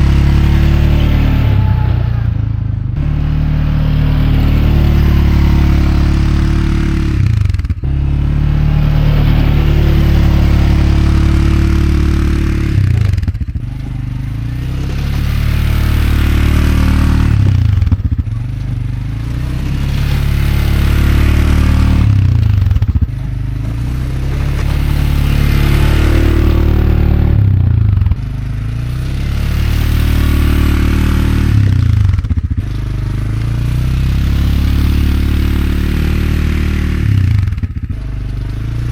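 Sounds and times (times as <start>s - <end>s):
atv engine running under load: 0.0s - 38.9s.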